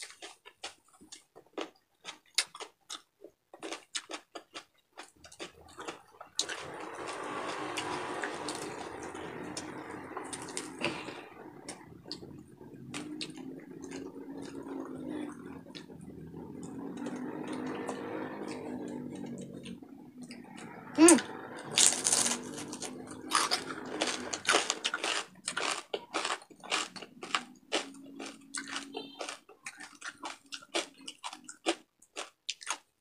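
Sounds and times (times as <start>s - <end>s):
crunching and smacking while chewing: 0.0s - 20.6s, 21.6s - 33.0s.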